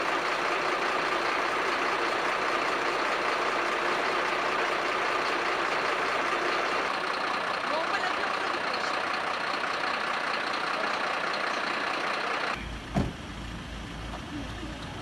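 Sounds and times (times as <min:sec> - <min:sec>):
vehicles idling: 0:00.0 - 0:15.0.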